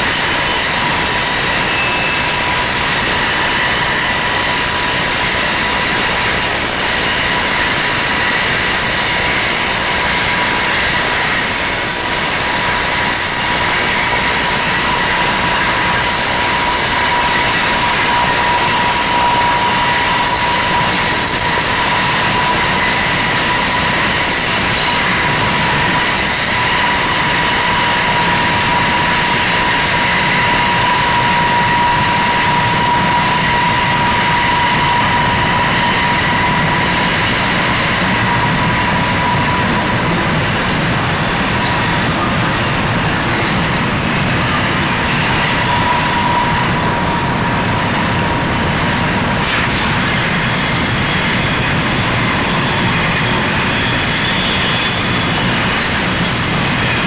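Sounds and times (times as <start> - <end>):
freight train roaring: 0.0 - 57.0
thin whine: 0.0 - 57.0.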